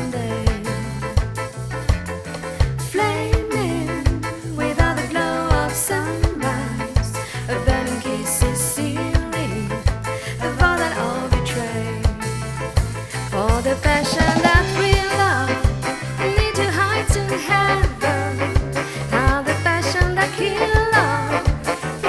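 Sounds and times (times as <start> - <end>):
ska music: 0.0 - 22.0.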